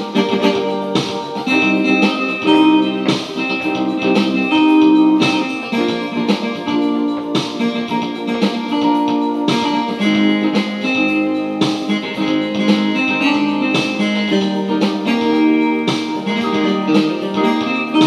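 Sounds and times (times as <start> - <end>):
electronic keyboard music: 0.0 - 18.0.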